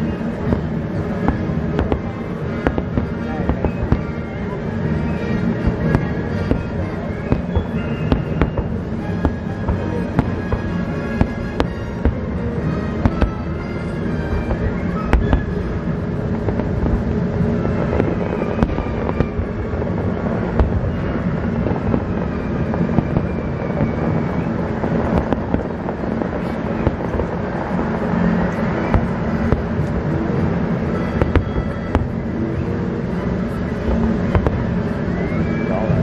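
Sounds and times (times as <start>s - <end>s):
fireworks bangs and crackles: 0.0s - 36.0s
fireworks rumble: 0.0s - 36.0s.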